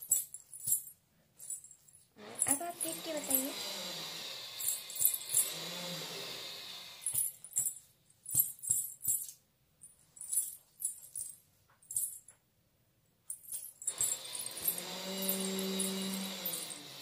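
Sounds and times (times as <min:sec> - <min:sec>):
small bells jingling: 0:00.0 - 0:03.6, 0:04.5 - 0:05.6, 0:07.0 - 0:12.4, 0:13.3 - 0:17.0.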